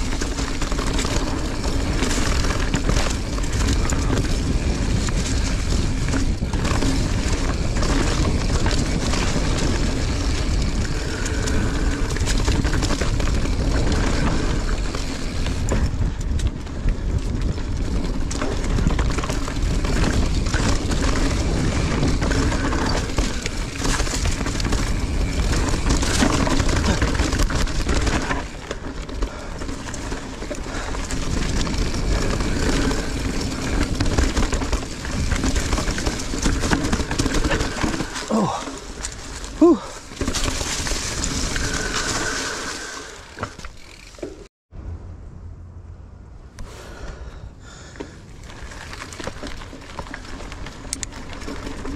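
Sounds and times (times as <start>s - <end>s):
bike rattling and knocking: 0.0s - 44.5s, 47.0s - 51.9s
wind and tyre rumble: 0.0s - 51.9s.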